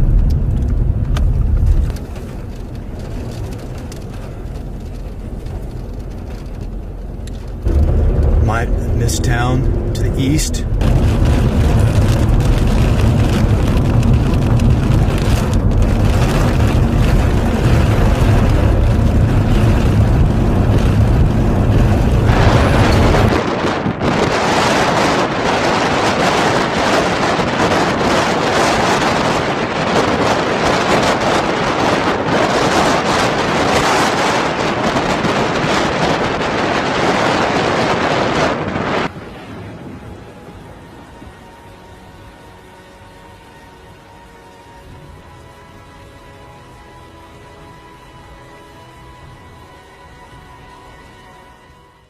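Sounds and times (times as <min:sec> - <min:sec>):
storm wind buffeting microphone: 0:00.0 - 0:51.9.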